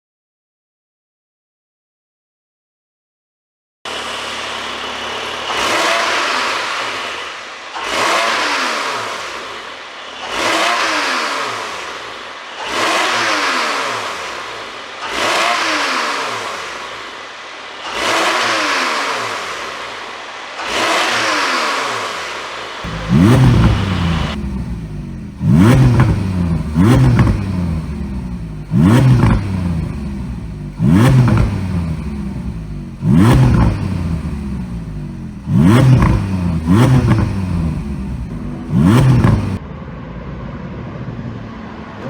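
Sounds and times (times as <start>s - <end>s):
sports car engine revving: 3.9s - 41.5s.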